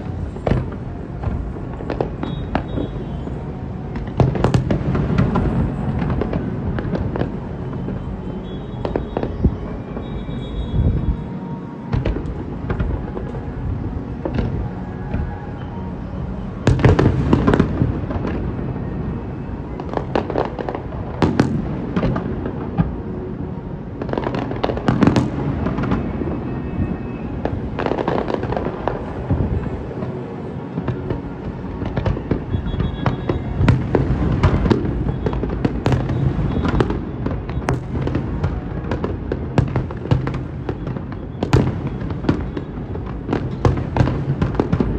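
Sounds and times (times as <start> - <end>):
continuous rumble: 0.0 - 44.9
fireworks bangs and crackles: 0.0 - 44.9.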